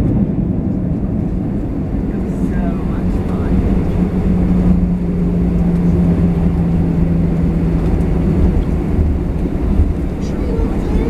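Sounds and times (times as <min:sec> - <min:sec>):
aircraft cabin rumble: 0:00.0 - 0:11.0
engine hum sinking in pitch: 0:00.0 - 0:11.0.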